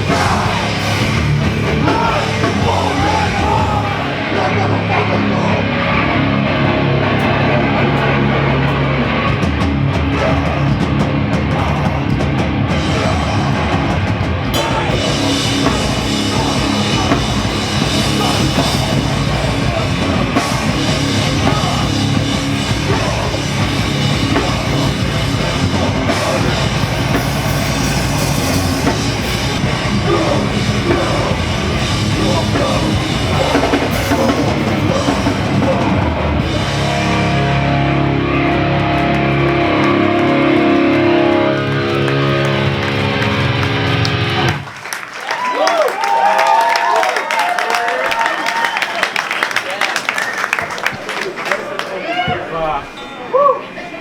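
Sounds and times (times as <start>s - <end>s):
hardcore punk music: 0.0s - 44.7s.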